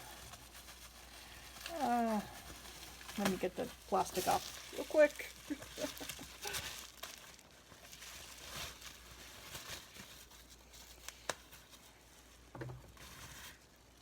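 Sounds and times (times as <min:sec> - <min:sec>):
plastic wrapping being torn: 0:00.0 - 0:11.9.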